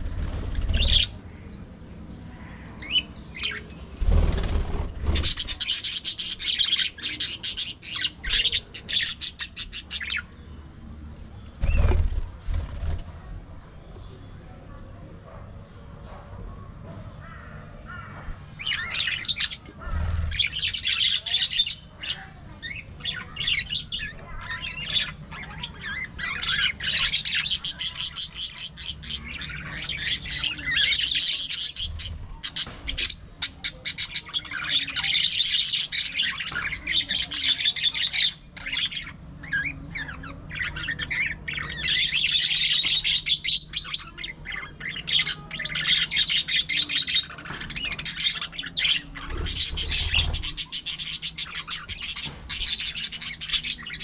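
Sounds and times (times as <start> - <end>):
budgerigars chattering and warbling: 0.0 - 1.6, 2.3 - 10.4, 17.2 - 54.0.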